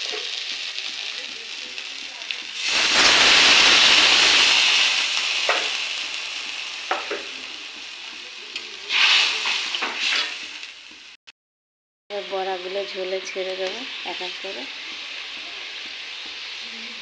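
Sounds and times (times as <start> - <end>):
water sizzling in hot oil: 0.0 - 11.2, 12.3 - 17.0.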